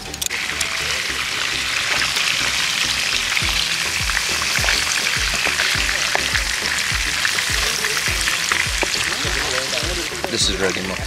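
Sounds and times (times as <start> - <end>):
background music with beat: 0.0 - 11.0
meat sizzling in frying pan: 0.0 - 11.0.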